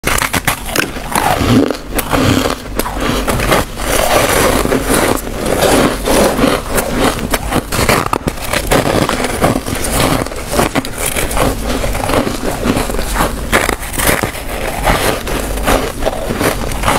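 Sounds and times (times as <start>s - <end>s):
frost crunching while chewed: 0.0s - 16.9s
hands scraping frost chunks: 0.0s - 16.9s.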